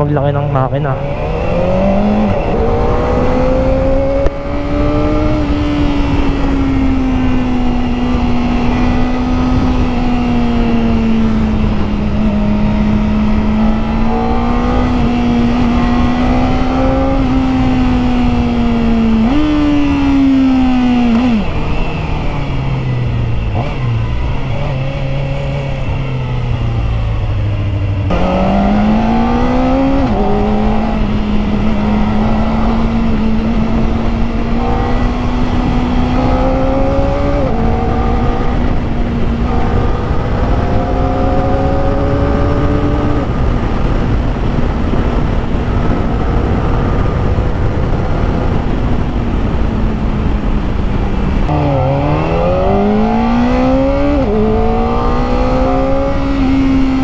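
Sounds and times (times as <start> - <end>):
wind rush: 0.0 - 57.0
motorcycle engine revving through gears: 0.6 - 57.0.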